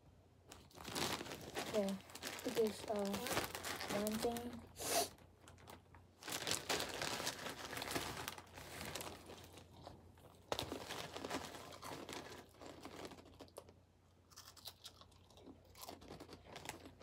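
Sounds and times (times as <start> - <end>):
plastic bag crinkling: 0.5 - 13.8, 15.4 - 17.0.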